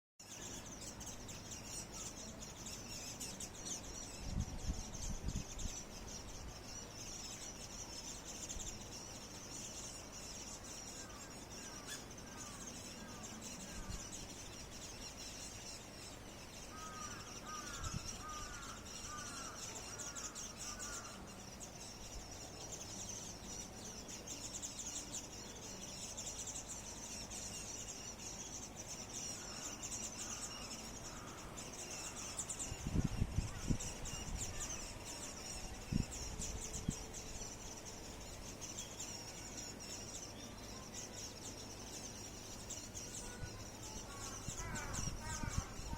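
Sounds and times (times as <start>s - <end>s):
small birds twittering: 0.2s - 45.9s.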